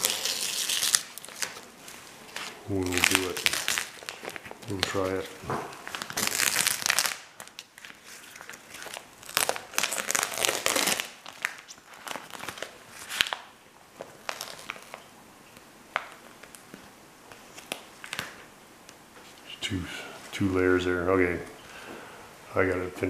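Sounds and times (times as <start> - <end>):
plastic sheeting and tape peeling: 0.0 - 18.5.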